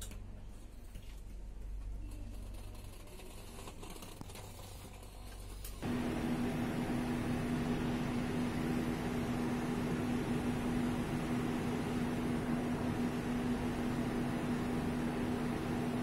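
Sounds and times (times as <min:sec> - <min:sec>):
mechanical hum with low drone: 0:00.0 - 0:16.0.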